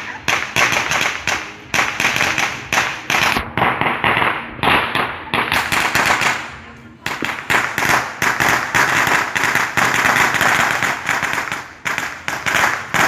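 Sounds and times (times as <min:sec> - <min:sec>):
firecrackers cracking: 0:00.0 - 0:13.0.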